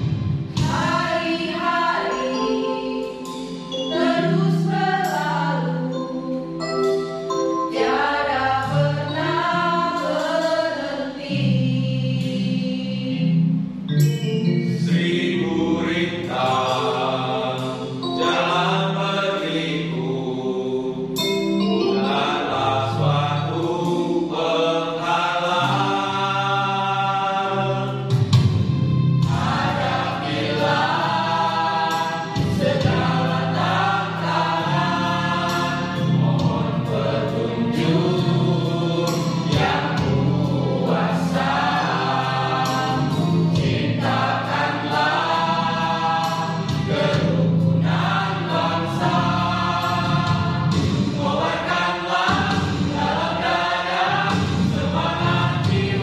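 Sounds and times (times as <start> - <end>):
mixed choir singing: 0.0 - 13.5, 14.7 - 28.4, 29.2 - 56.0.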